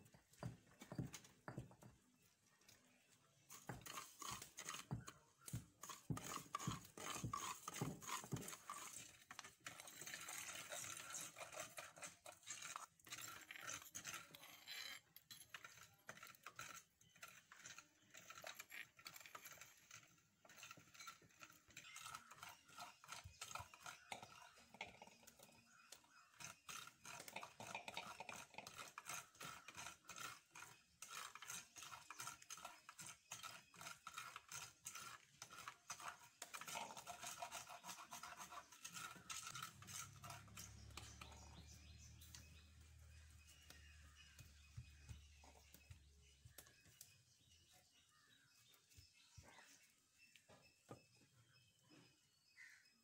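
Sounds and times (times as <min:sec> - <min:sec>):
spoons scraping clay pots: 0:00.1 - 0:52.8.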